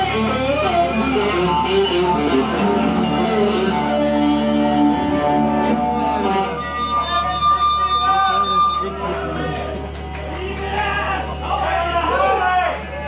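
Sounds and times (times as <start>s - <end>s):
electric guitar notes: 0.0s - 10.5s
amp hum: 0.0s - 12.0s.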